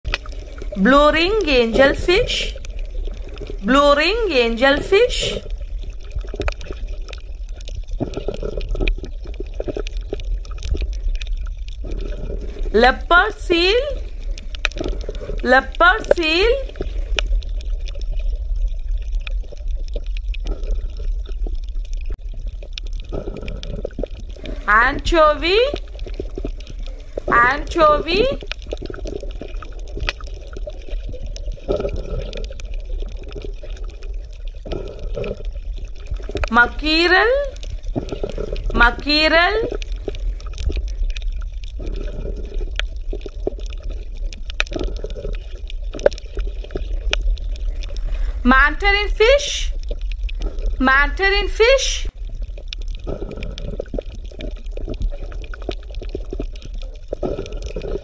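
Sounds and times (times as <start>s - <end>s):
water sloshing and splashing: 0.0s - 48.6s, 49.2s - 58.0s
low underwater rumble: 0.0s - 58.0s
small underwater clicks: 0.1s - 0.8s, 2.5s - 3.6s, 5.2s - 12.8s, 13.9s - 24.7s, 25.6s - 27.4s, 28.2s - 36.6s, 37.4s - 48.5s, 49.7s - 50.8s, 52.1s - 58.0s.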